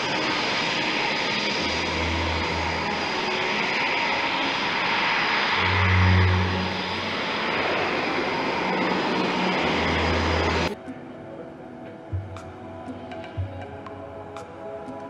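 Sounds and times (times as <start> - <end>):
turboprop engines running: 0.0 - 15.0.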